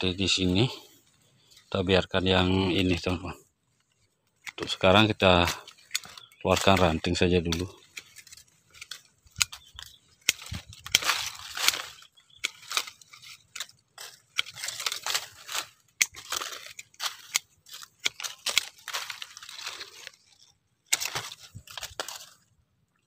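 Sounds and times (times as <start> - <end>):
branches and leaves rustling: 0.0 - 23.0
pruning shears snipping: 2.7 - 22.5.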